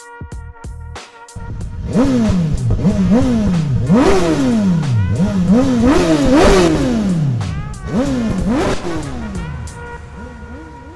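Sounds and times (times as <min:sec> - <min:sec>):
motorcycle engine revving: 0:01.4 - 0:10.9.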